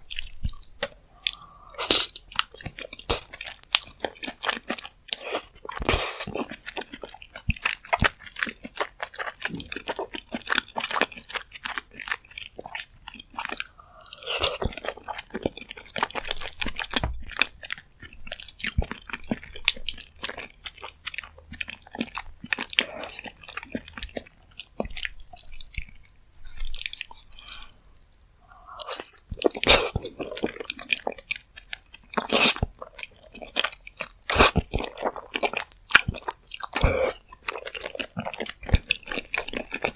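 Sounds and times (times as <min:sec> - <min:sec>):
close chewing with wet smacks: 0:00.0 - 0:39.9.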